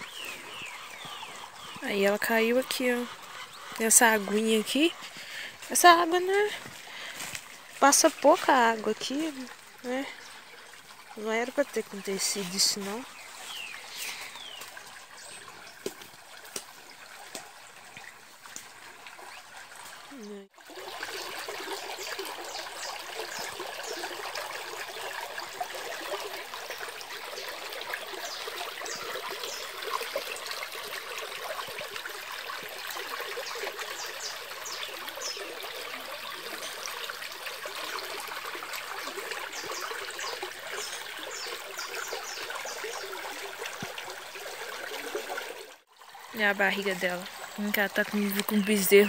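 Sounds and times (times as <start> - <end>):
stream trickling: 0.0 - 49.0.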